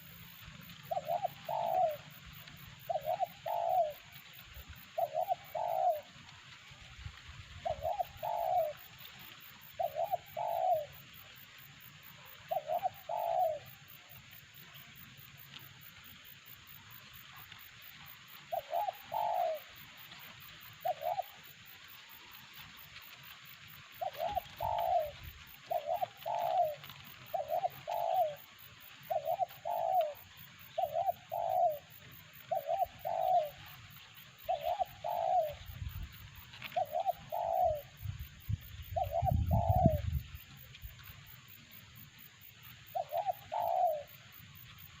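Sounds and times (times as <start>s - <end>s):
dove cooing: 0.0s - 6.4s, 7.4s - 15.7s, 16.7s - 45.0s.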